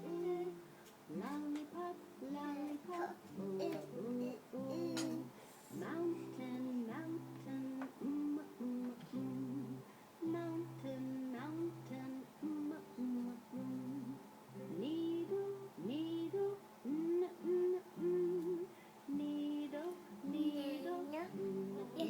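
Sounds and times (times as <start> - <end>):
child singing: 0.0 - 22.0.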